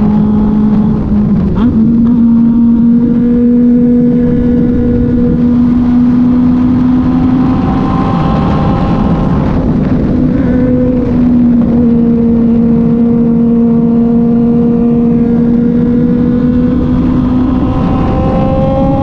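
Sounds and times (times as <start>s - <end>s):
motorcycle engine cruising: 0.0s - 19.0s
wind and road noise: 0.0s - 19.0s.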